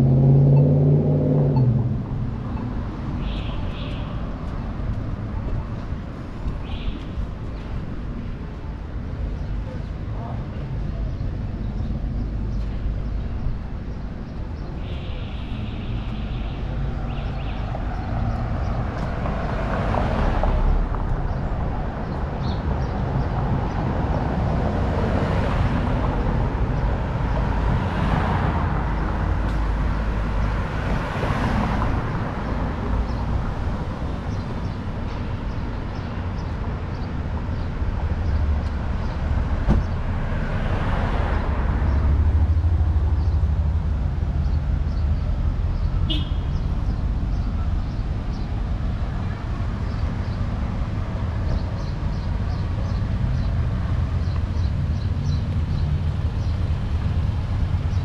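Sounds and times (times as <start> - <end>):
cars passing: 0.0 - 58.0
street traffic rumble: 0.0 - 58.0.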